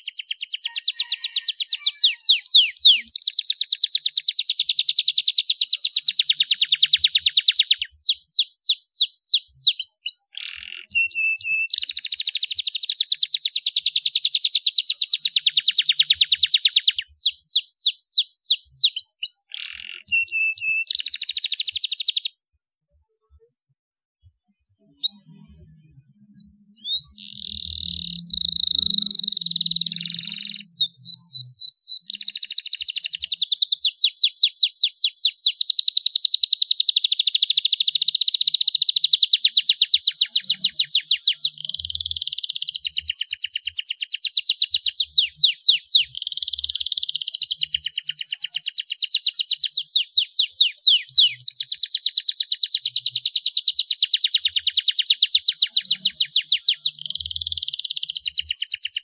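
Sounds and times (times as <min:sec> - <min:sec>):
canary singing trills: 0:00.0 - 0:22.4, 0:24.8 - 0:59.0.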